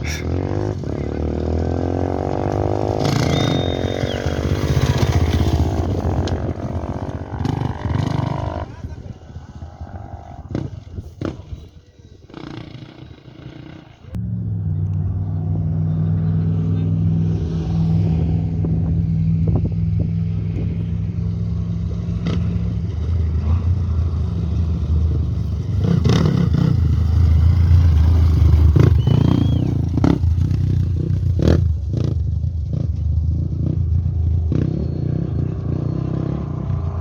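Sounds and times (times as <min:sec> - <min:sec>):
vehicle engine running: 0:00.0 - 0:11.9, 0:12.9 - 0:37.0.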